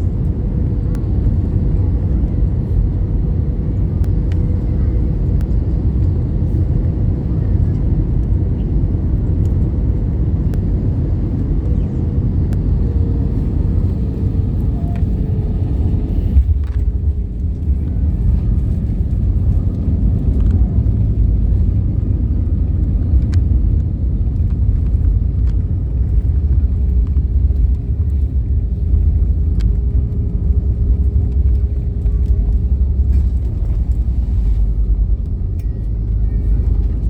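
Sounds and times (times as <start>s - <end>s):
jet engines and rushing air: 0.0s - 37.0s.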